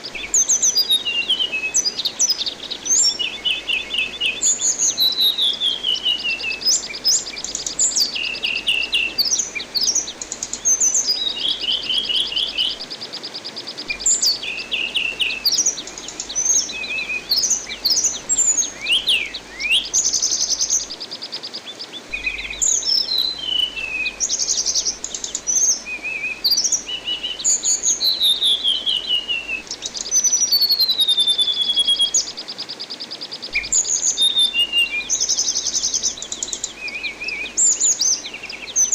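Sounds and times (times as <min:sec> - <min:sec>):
running water hiss: 0:00.0 - 0:38.9.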